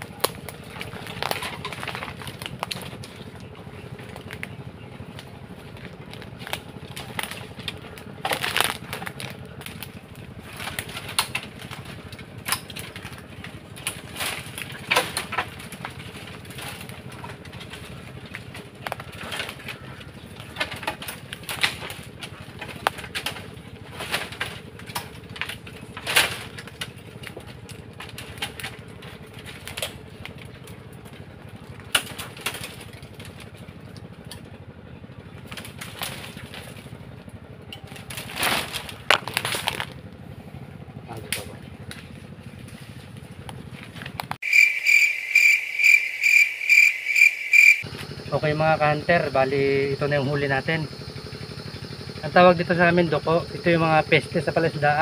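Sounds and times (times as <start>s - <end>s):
bamboo stems rustling and cracking: 0.0s - 55.0s.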